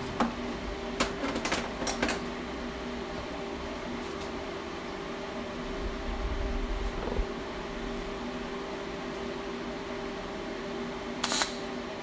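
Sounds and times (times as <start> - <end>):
welding machine humming: 0.0 - 12.0.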